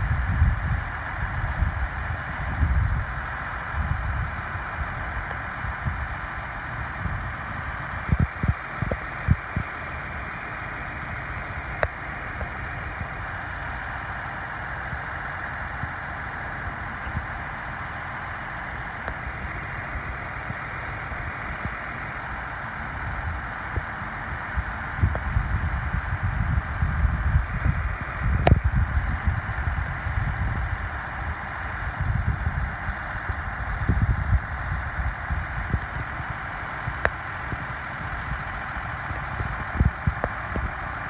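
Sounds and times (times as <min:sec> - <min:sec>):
farm machinery engine running: 0:00.0 - 0:41.0
heavy rumbling: 0:00.0 - 0:41.0.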